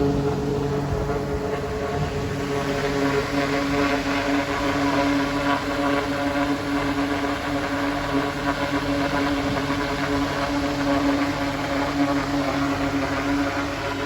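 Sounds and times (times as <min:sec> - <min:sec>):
mist fan humming: 0:00.0 - 0:14.0.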